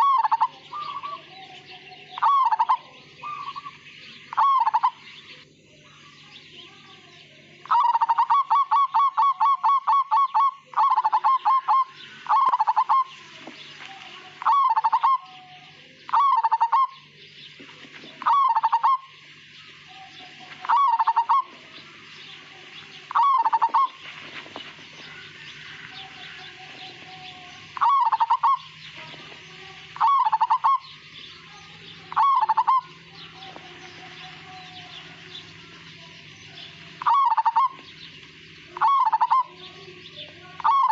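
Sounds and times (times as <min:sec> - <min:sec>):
dove cooing: 0:00.0 - 0:05.4, 0:07.3 - 0:40.9.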